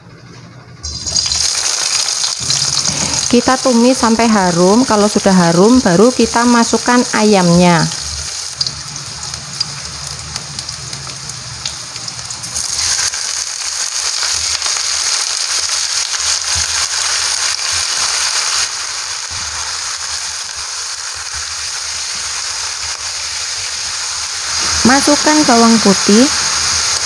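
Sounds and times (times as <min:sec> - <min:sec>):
food sizzling in hot oil: 0:00.8 - 0:27.0.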